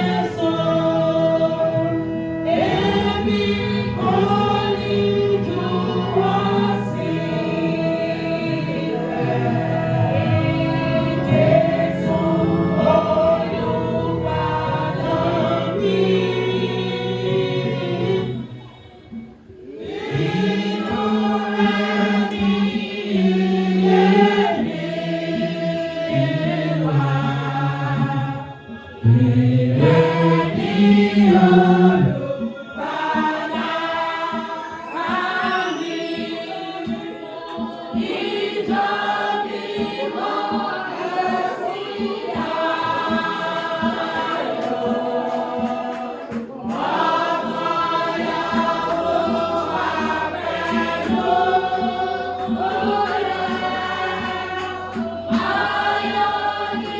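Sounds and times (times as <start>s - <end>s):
church choir singing a hymn: 0.0s - 56.9s.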